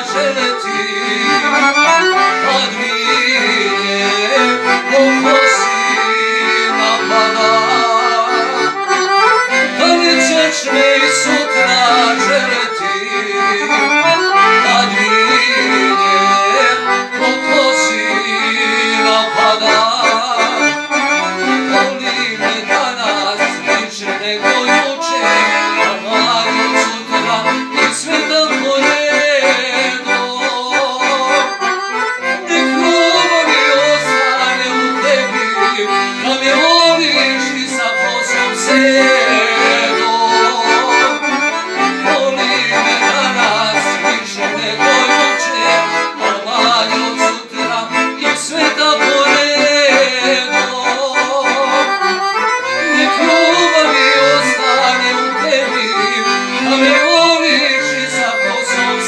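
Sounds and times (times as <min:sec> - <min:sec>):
accordion playing folk melody: 0:00.0 - 0:59.0
man singing: 0:00.0 - 0:59.0.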